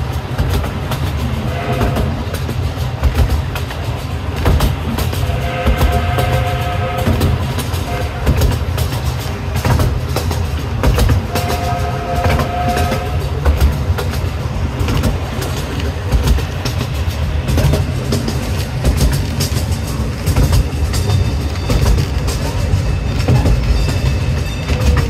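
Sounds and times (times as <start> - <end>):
train car rumbling on track: 0.0 - 25.0
wheels clicking over rail joints: 0.0 - 25.0.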